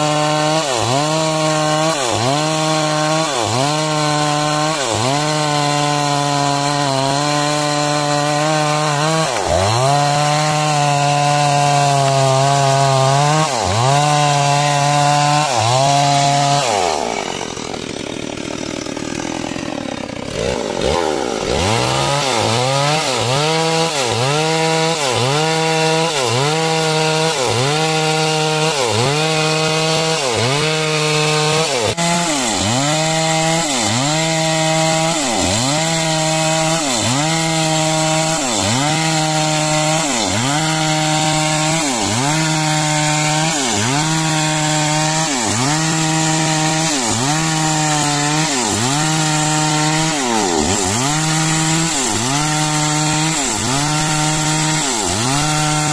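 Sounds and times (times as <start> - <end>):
chainsaw cutting timber: 0.0 - 55.9.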